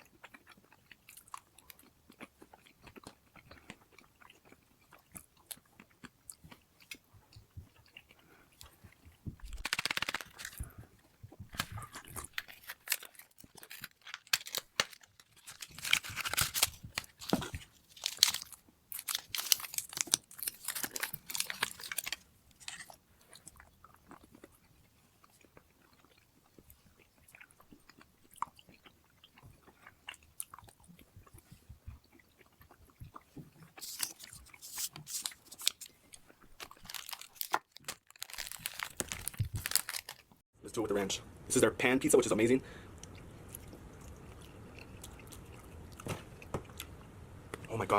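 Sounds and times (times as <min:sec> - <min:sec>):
person eating crunchy food: 0:00.0 - 0:40.4, 0:42.9 - 0:47.0.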